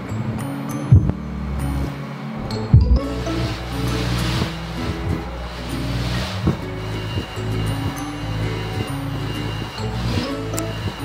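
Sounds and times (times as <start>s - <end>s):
sustained low bass notes: 0.0s - 11.0s.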